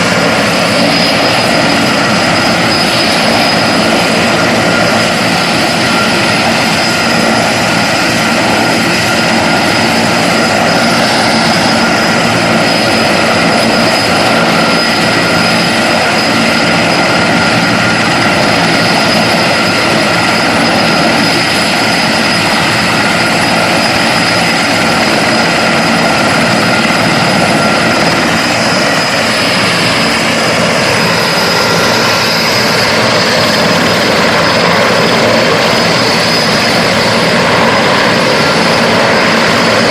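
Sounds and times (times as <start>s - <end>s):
helicopter engines and rotor: 0.0s - 39.9s
helicopter turbine whine: 0.0s - 39.9s.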